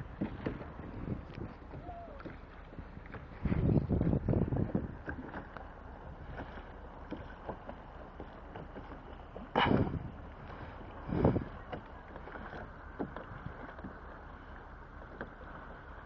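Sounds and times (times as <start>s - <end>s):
paddle blades splashing: 0.0s - 16.0s
water lapping at hull: 0.0s - 16.0s.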